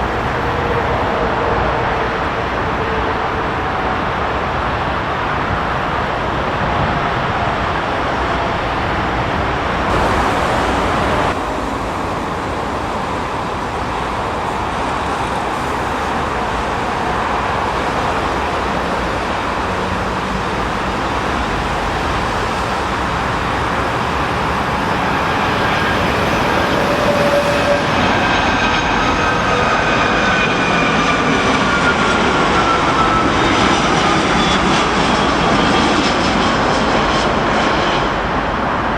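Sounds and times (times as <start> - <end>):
high aircraft engine whine: 0.0 - 38.9
jet engines roaring: 0.0 - 38.9
storm wind rumble: 0.0 - 38.9.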